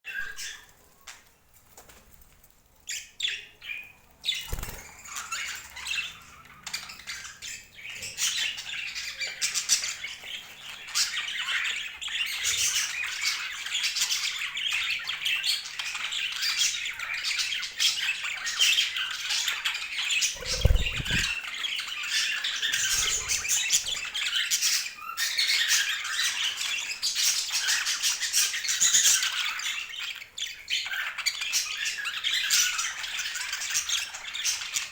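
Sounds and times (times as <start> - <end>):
budgerigars chirping and squawking: 2.9 - 34.9.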